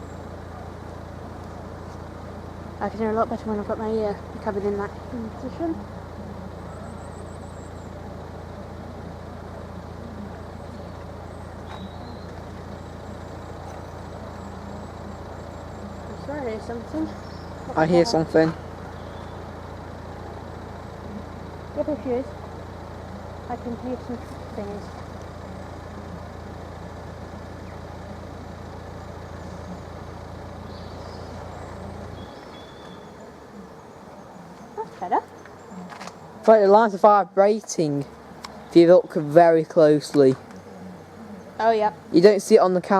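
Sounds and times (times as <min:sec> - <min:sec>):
vehicle engine idling: 0:00.0 - 0:42.9.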